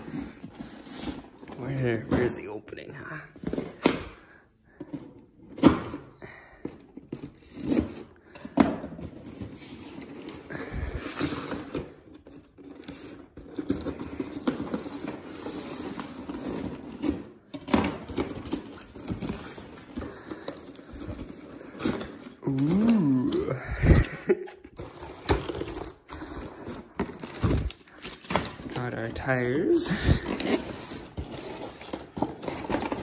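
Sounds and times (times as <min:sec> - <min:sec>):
packaging rustling and scraping: 0:00.0 - 0:33.0.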